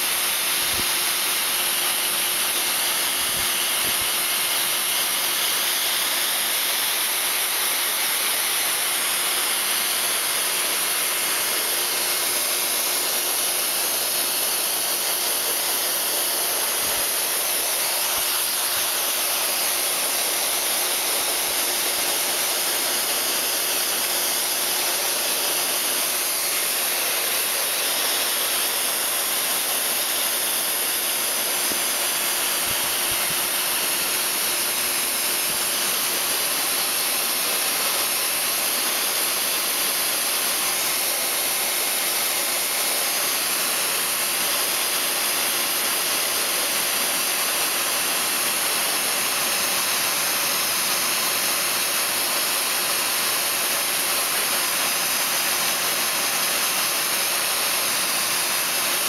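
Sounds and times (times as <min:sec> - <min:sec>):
pet dryer blowing air: 0:00.0 - 0:59.0.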